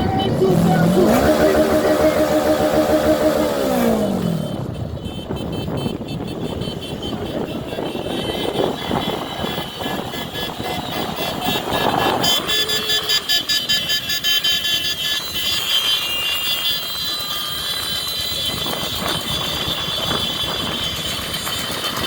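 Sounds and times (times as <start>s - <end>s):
motorcycle engines running: 0.0s - 22.0s
traffic road noise: 0.0s - 22.0s.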